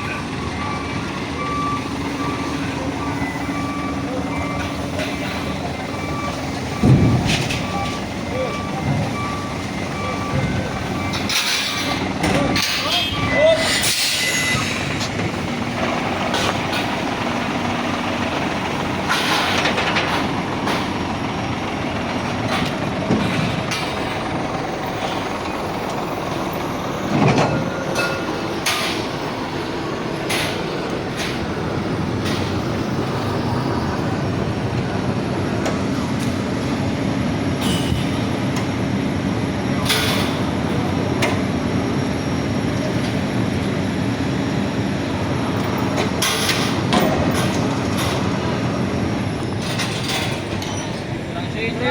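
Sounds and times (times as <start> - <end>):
truck engine rumbling and rattling: 0.0 - 51.9.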